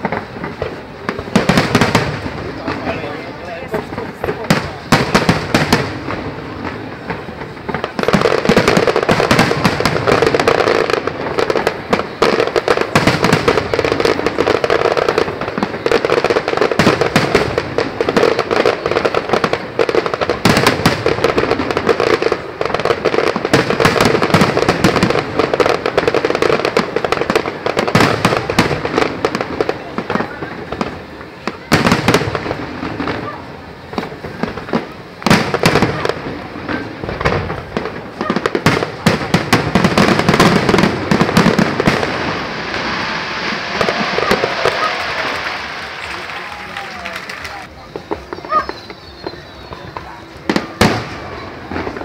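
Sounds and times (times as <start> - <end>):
fireworks bursting and crackling: 0.0 - 52.0.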